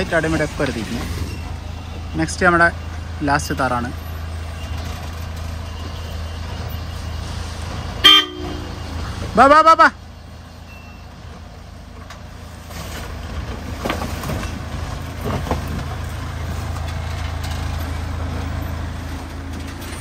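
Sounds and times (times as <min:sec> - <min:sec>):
suv engine running under load: 0:00.0 - 0:20.0.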